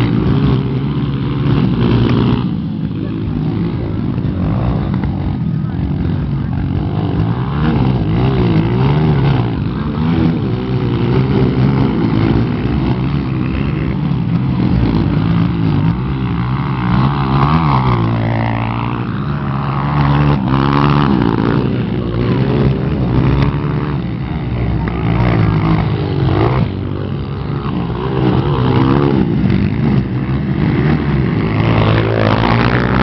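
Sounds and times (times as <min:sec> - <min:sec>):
motocross bike engines revving: 0:00.0 - 0:33.0.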